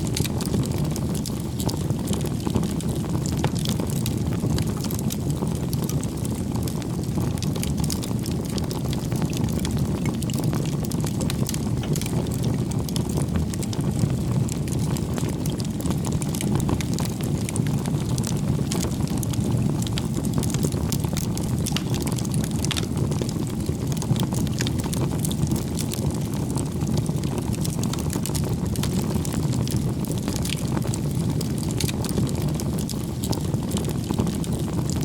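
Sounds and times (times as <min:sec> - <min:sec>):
campfire flames rushing: 0:00.0 - 0:35.0
logs crackling and popping: 0:00.0 - 0:35.0.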